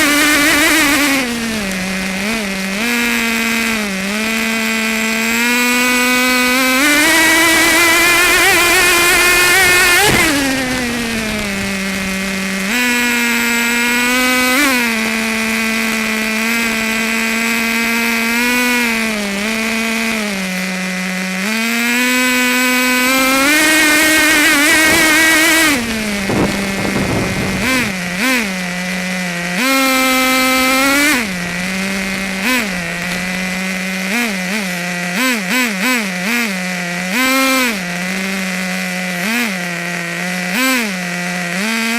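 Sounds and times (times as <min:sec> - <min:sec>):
quick throttle blips: 0:00.0 - 0:41.9
small nitro engine revving: 0:00.0 - 0:41.9.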